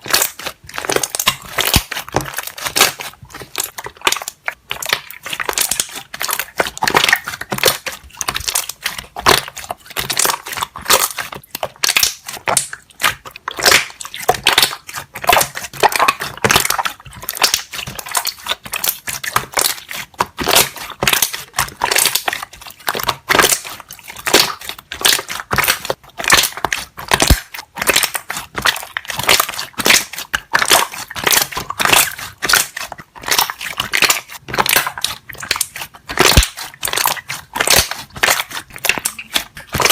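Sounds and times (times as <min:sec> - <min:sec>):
slime air bubbles popping: 0:00.0 - 0:39.9.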